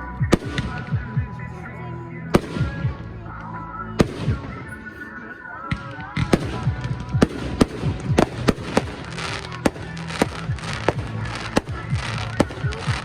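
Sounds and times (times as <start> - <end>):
fireworks crackling: 0.0 - 1.4, 2.3 - 13.0
fireworks bangs: 0.3 - 1.4, 2.3 - 3.1, 4.0 - 13.0.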